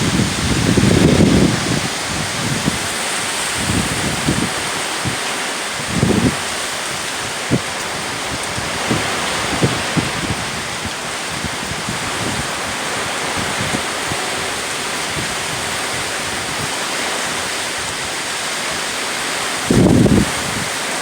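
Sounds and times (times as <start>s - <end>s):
strong storm wind: 0.0s - 21.0s
wind buffeting microphone: 0.0s - 21.0s.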